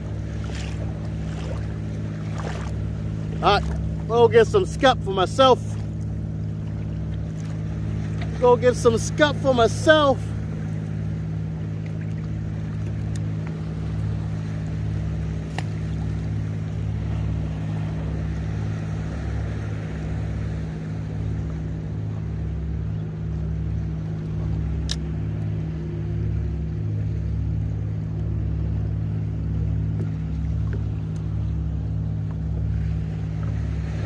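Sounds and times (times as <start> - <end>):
boat motor droning: 0.0 - 34.0.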